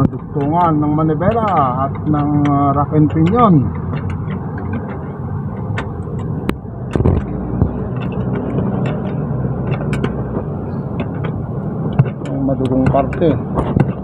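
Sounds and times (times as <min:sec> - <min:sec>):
low rumble of shop noise: 0:00.0 - 0:14.0
metallic clicks of hand tools: 0:00.0 - 0:14.0.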